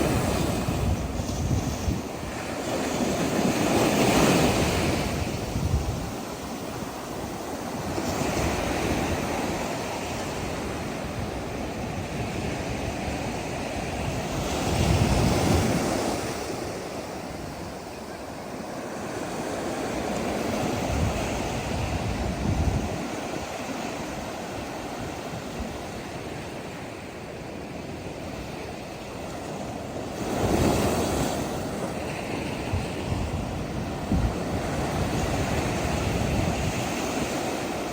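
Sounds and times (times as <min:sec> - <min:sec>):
wind buffeting microphone: 0:00.0 - 0:17.9, 0:19.0 - 0:26.5, 0:27.9 - 0:37.9
waves breaking on beach: 0:00.0 - 0:37.9.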